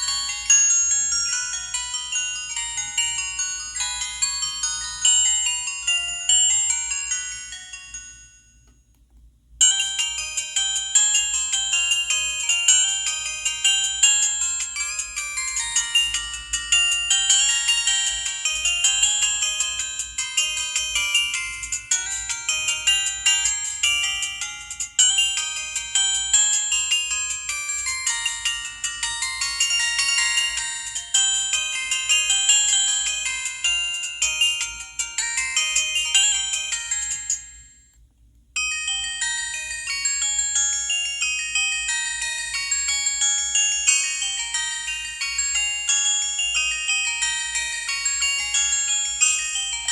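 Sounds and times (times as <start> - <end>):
phone ringtone melody: 0.0 - 8.9, 9.6 - 37.9, 38.6 - 49.9.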